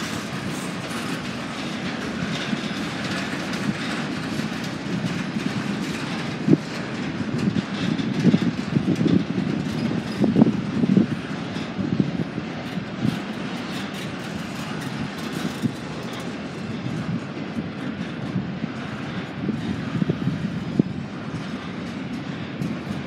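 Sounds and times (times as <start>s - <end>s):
train clanks: 0.0s - 23.0s
train wheels rumbling on rail: 0.0s - 23.0s.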